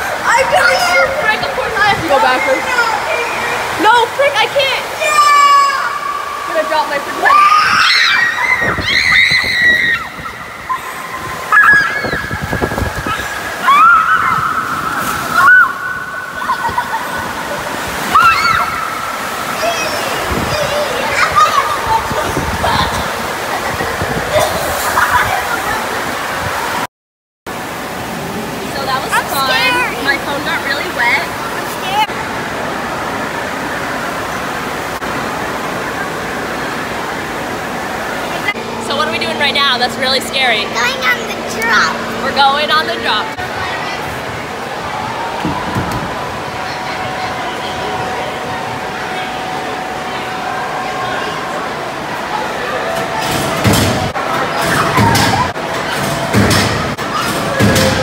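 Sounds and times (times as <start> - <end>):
water rushing and sloshing: 0.0 - 26.9, 27.5 - 58.0.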